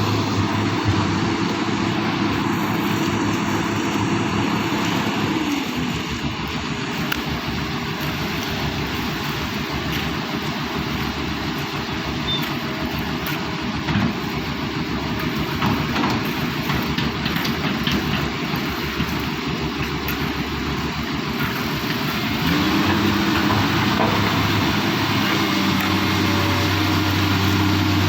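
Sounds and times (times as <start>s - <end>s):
excavator engine rattling and droning: 0.0s - 28.0s.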